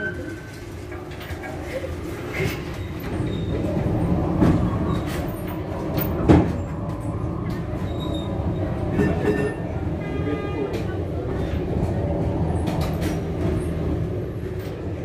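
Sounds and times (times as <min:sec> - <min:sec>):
tram wheels rumbling on track: 0:00.0 - 0:15.0.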